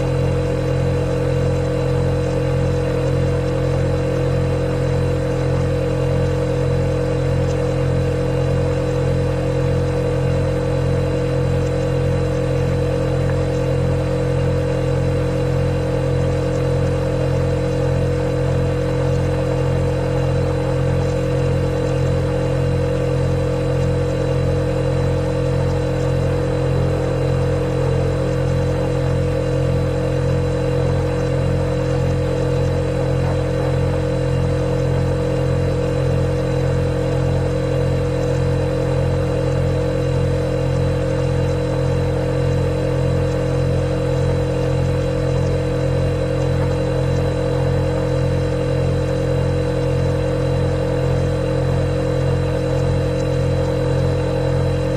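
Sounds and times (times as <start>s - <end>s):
refrigerator humming: 0.0s - 54.9s.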